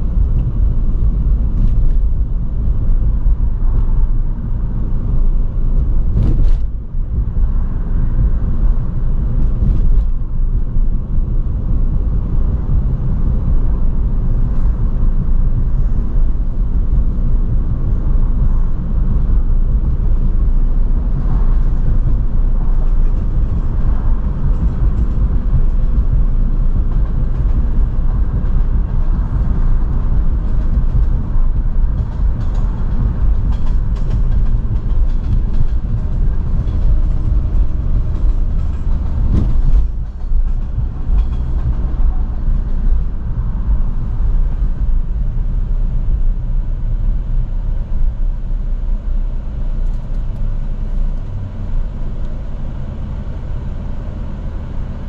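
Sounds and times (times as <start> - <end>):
rumble of tyres on road: 0.0 - 55.0
sports car engine and exhaust: 0.0 - 55.0.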